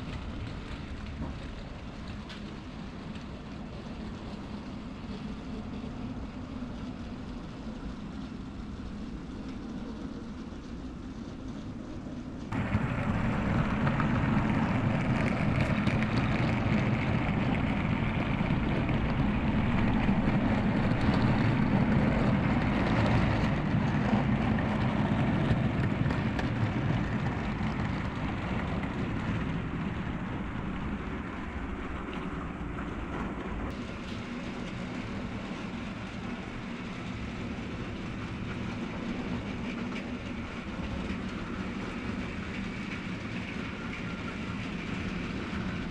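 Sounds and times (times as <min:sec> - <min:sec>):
model train running on track: 0:00.0 - 0:45.9.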